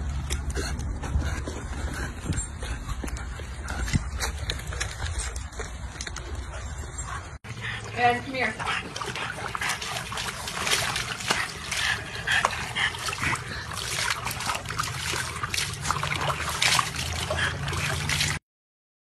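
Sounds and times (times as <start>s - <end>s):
water splashing and trickling: 0.0s - 18.4s.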